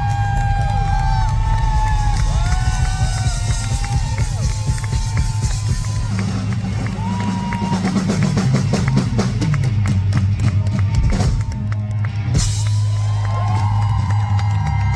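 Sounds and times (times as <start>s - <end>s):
drum kit beat: 0.0s - 13.8s
bass line: 0.0s - 14.9s.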